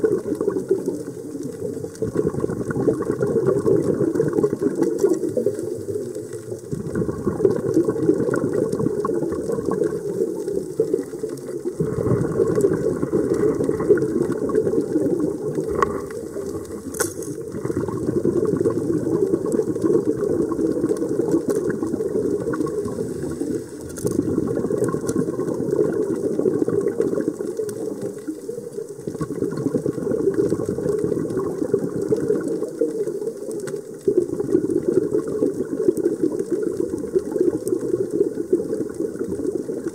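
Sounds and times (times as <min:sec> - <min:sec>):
exhaled bubbles gurgling: 0:00.0 - 0:39.9.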